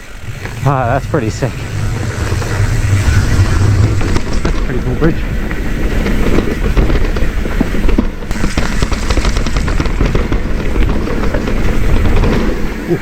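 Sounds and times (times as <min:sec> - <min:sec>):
bike rattling: 0:00.0 - 0:13.0
mountain bike tyres on dirt trail: 0:00.0 - 0:13.0.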